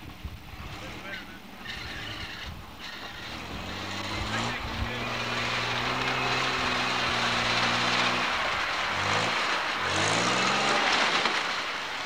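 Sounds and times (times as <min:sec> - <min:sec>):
tyres spinning in mud: 0:00.0 - 0:12.0
truck engine revving: 0:00.5 - 0:12.0.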